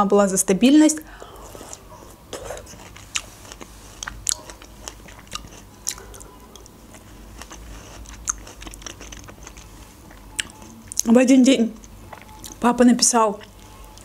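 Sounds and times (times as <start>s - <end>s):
person chewing cake: 1.1s - 11.2s, 11.8s - 12.7s, 13.4s - 14.0s.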